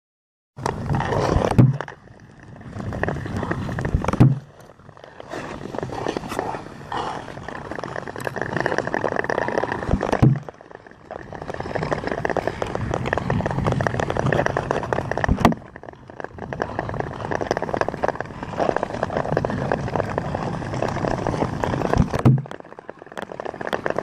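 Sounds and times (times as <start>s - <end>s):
skate blades scraping on ice: 0.6s - 24.0s.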